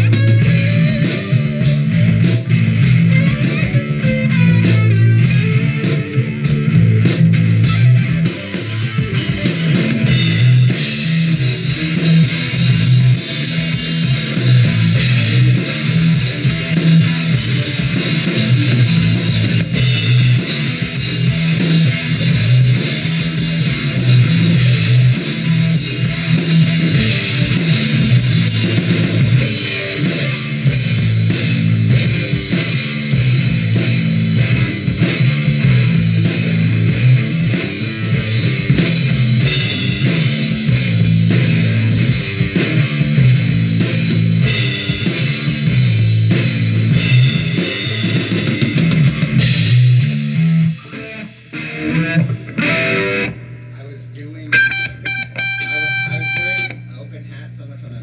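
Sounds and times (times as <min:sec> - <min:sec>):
bass guitar: 0:00.0 - 0:58.0
drum kit playing: 0:00.0 - 0:58.0
electric guitar riff: 0:00.0 - 0:58.0.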